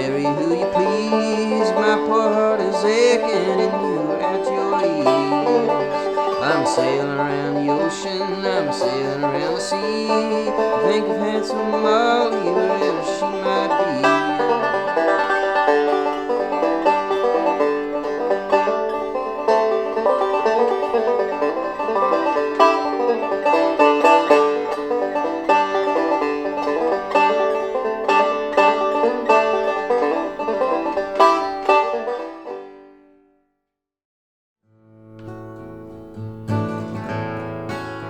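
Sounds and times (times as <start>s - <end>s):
banjo picking: 0.0s - 33.2s, 34.9s - 38.0s.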